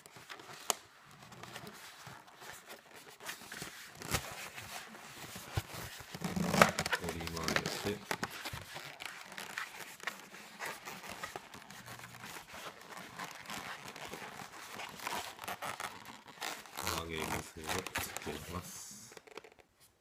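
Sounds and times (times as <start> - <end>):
balloons rubbing and squeaking: 0.0 - 20.0.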